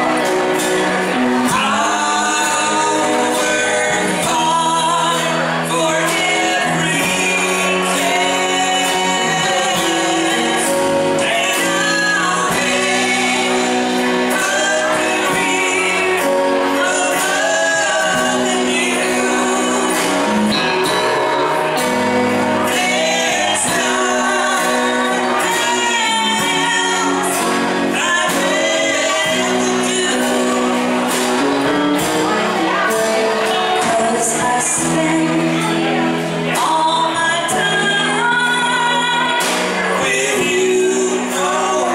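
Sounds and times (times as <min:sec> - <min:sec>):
country band playing: 0:00.0 - 0:41.9
woman singing: 0:01.1 - 0:41.9.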